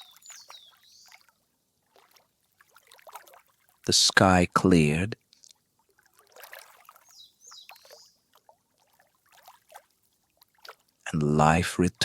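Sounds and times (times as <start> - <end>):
water dripping and trickling: 0.0 - 3.9, 5.2 - 11.1.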